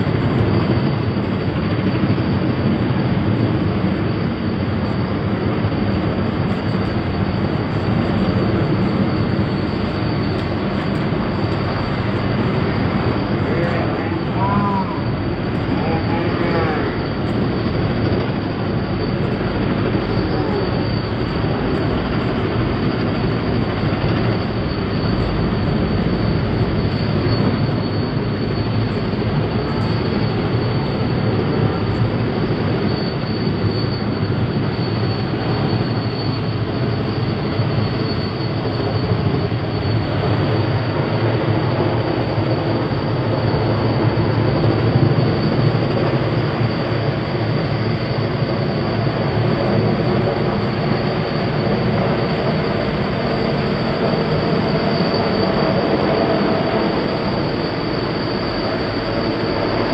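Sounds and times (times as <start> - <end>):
helicopter rotor and engine: 0.0 - 59.9
high turbine whine: 0.0 - 59.9.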